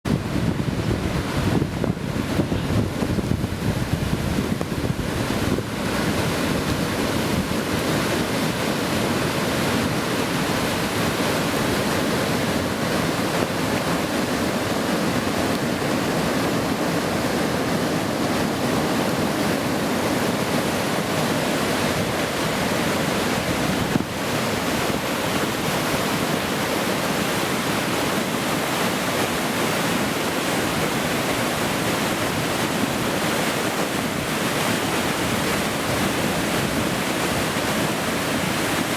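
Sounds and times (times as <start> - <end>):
floodwater rushing: 0.1 - 38.9.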